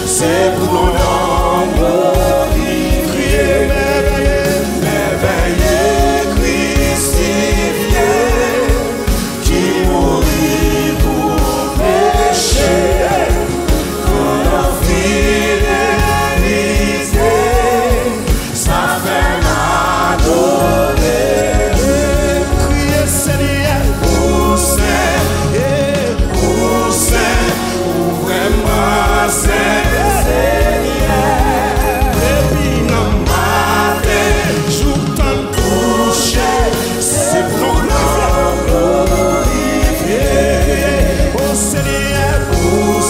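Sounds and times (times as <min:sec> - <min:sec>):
backing singers: 0:00.0 - 0:43.0
band with drum kit: 0:00.0 - 0:43.0
man leading gospel song: 0:00.0 - 0:43.0.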